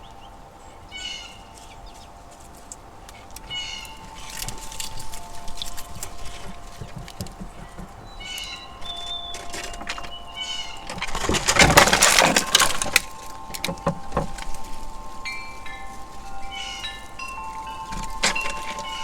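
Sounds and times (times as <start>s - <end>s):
wind chimes ringing: 0.0s - 19.0s.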